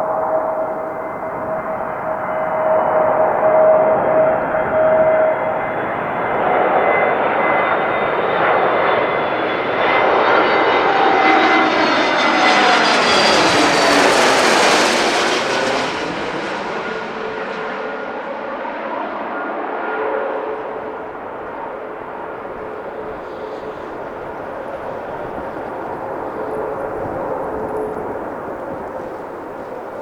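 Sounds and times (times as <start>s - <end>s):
aircraft engines passing: 0.0s - 30.0s.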